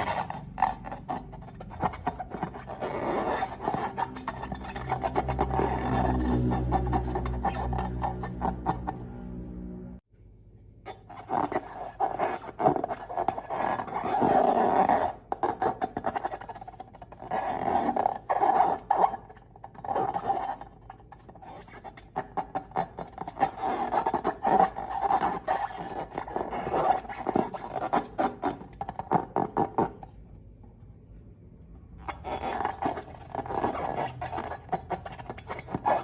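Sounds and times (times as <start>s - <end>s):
rubbery balloon squeaks: 0.0s - 9.2s, 10.9s - 30.2s, 32.0s - 36.0s.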